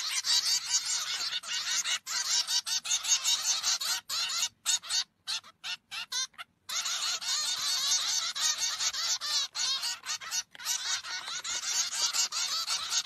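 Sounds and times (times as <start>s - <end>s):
fledglings begging chirps: 0.0s - 13.0s.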